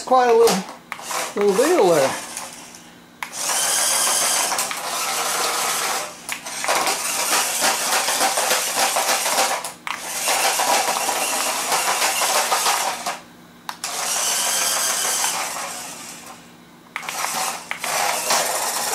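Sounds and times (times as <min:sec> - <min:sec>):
electric motors whirring: 0:00.3 - 0:18.9.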